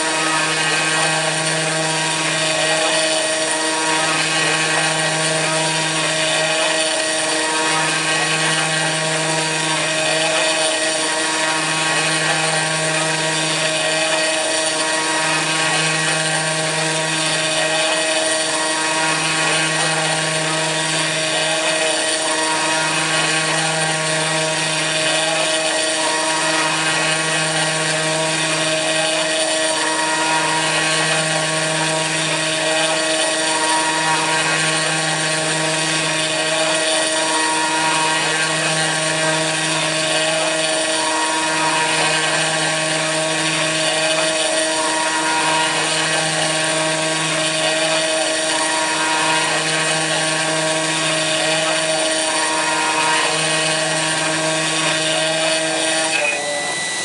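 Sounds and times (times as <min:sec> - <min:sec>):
router spindle running: 0:00.0 - 0:57.0.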